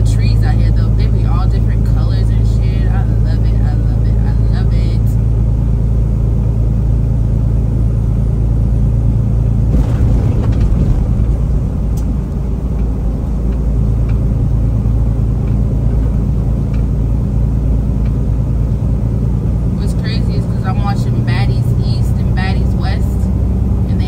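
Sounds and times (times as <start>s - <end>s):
road and tyre noise: 0.0s - 24.0s
truck engine drone: 0.0s - 24.0s.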